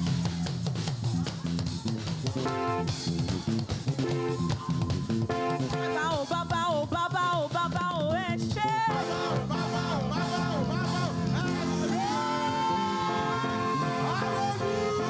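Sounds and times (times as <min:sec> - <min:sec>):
live praise band music: 0:00.0 - 0:15.0.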